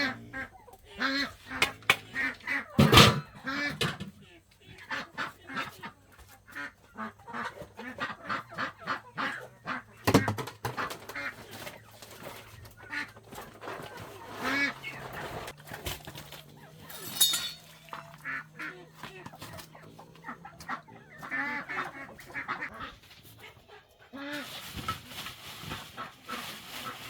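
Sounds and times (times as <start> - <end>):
fowl honking calls: 0.0 - 4.1, 4.8 - 15.6, 16.4 - 27.0.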